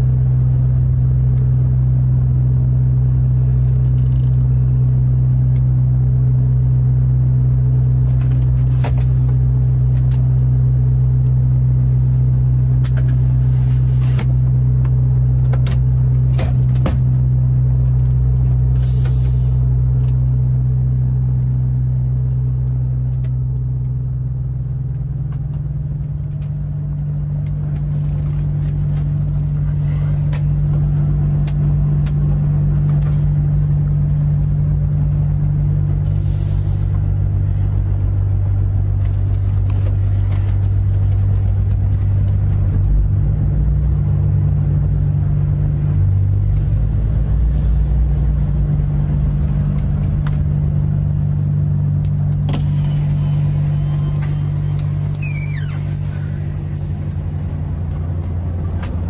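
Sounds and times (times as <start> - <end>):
diesel truck engine drone: 0.0 - 59.0
road noise: 0.0 - 59.0.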